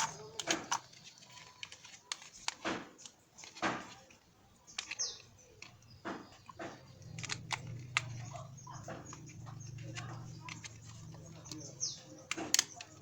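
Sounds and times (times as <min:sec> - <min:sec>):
clicks and knocks of tools: 0:00.0 - 0:13.0.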